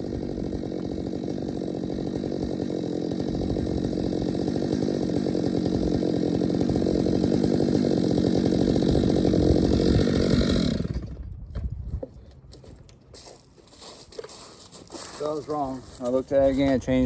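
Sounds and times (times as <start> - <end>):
chainsaw cutting into tree: 0.0 - 11.4, 13.2 - 17.0.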